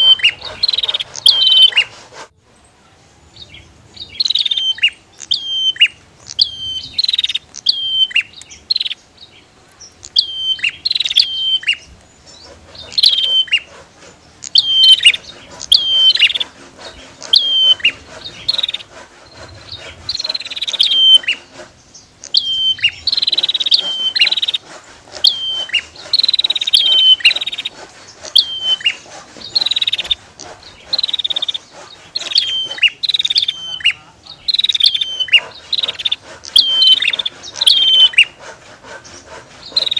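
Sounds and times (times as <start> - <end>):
bird calling sharp high notes: 0.0 - 2.2, 3.4 - 39.9
buzzy rasping bird phrases: 0.0 - 39.9.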